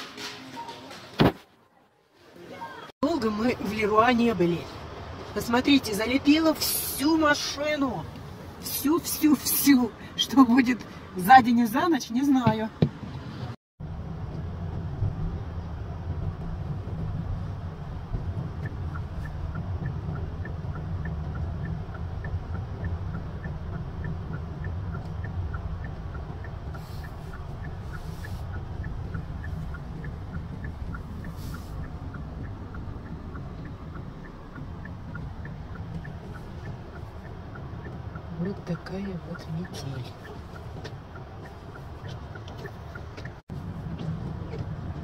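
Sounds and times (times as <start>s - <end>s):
car engine and road rumble: 2.6s - 45.0s
turn signal ticking: 3.0s - 45.0s.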